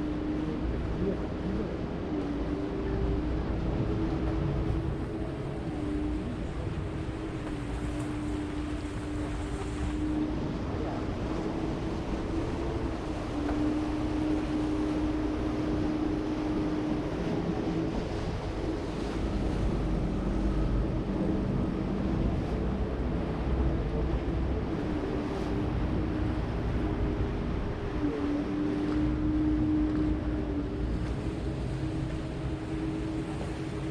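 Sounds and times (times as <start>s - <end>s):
boat engine droning: 0.0s - 33.9s
water wash: 0.0s - 33.9s
wind noise on microphone: 0.0s - 33.9s.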